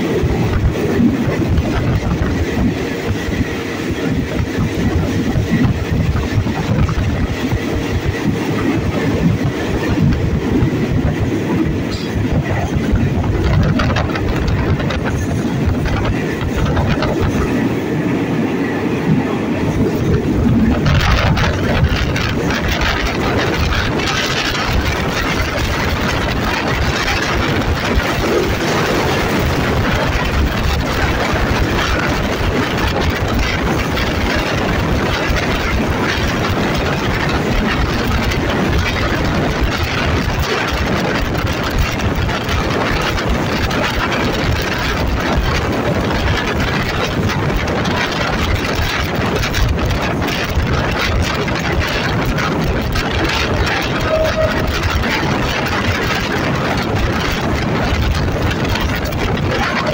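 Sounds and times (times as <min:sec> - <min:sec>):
locomotive diesel engine running: 0:00.0 - 0:59.9
train wheels on rails: 0:00.0 - 0:59.9.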